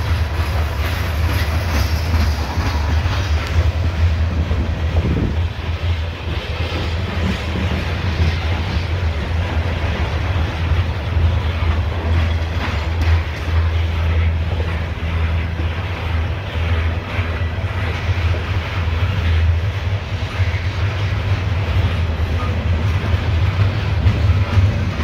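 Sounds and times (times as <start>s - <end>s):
steel wheels rumbling on rails: 0.0s - 25.0s.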